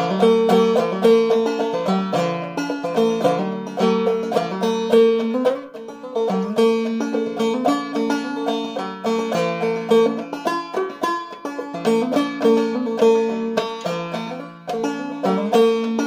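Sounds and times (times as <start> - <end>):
banjo picking and strumming: 0.0 - 16.0.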